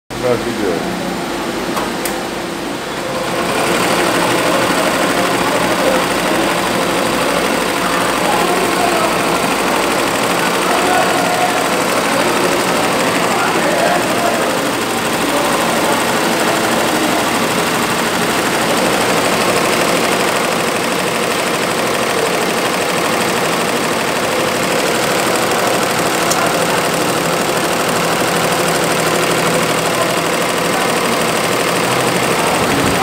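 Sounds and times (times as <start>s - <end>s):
embroidery machine stitching: 3.0s - 33.0s.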